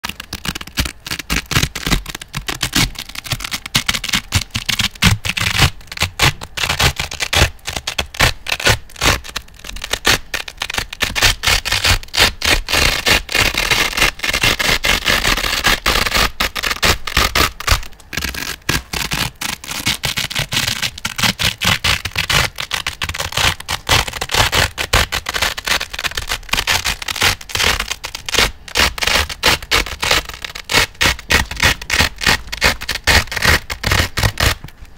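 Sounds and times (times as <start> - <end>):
velcro ripping and rubbing: 0.0 - 34.9.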